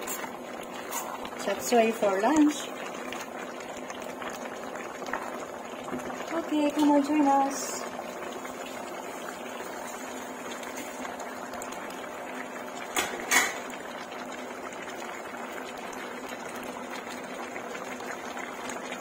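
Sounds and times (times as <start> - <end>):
sauce bubbling in a pan: 0.0 - 19.0.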